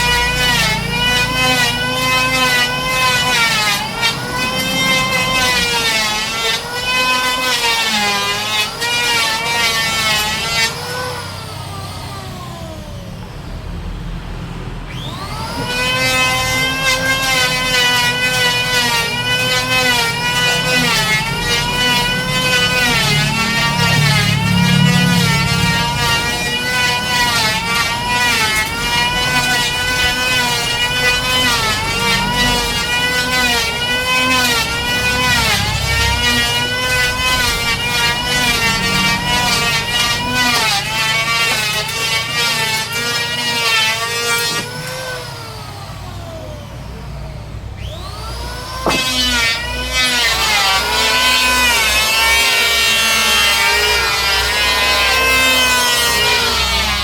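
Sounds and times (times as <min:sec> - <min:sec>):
power tool cutting wood: 0:00.0 - 0:57.0.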